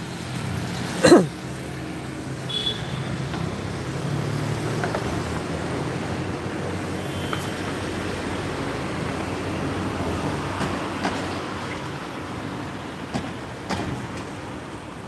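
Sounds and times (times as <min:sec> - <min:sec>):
passing cars and motorbikes: 0:00.0 - 0:15.0.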